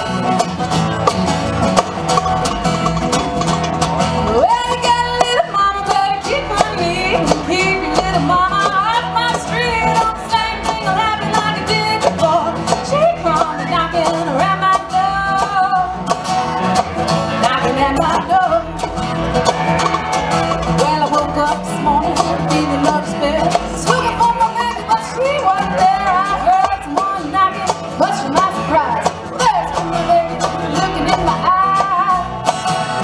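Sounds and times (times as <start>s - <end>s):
live country band playing: 0.0s - 33.0s.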